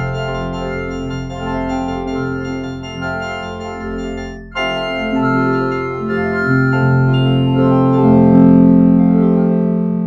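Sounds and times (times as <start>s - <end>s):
organ-like keyboard chords: 0.0s - 10.0s.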